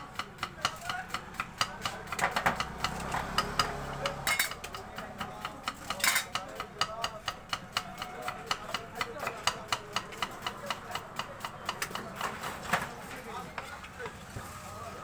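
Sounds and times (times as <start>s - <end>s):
knife chopping onion on wood: 0.0s - 12.8s.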